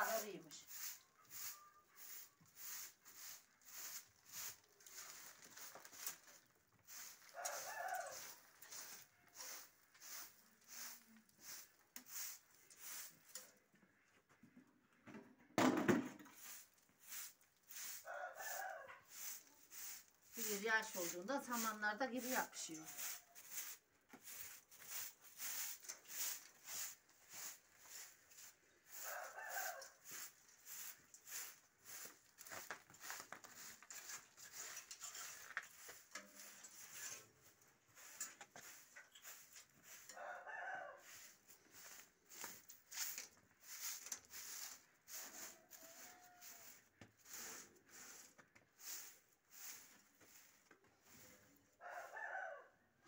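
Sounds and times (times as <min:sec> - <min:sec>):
broom sweeping concrete floor: 0:00.0 - 0:13.7, 0:15.7 - 0:51.8.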